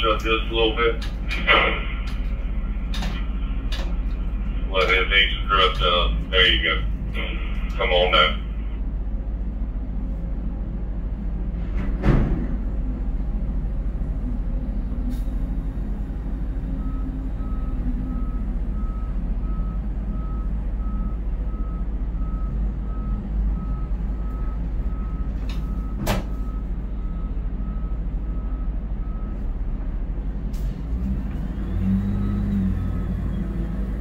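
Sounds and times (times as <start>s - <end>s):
crane machinery low rumble: 0.0s - 34.0s.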